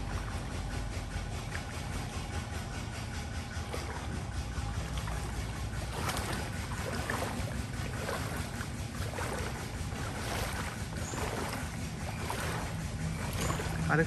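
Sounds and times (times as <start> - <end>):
low rumble: 0.0 - 14.0
water sloshing: 0.0 - 14.0.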